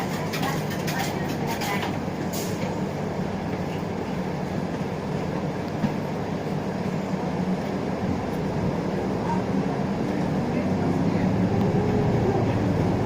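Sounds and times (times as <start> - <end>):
bus diesel engine hum: 0.0 - 13.0
road noise: 0.0 - 13.0.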